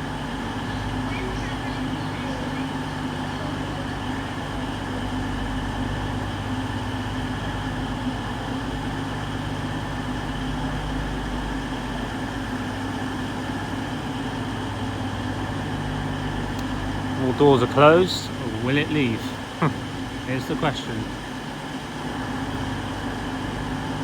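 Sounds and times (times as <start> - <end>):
diesel train engines idling: 0.0 - 24.0.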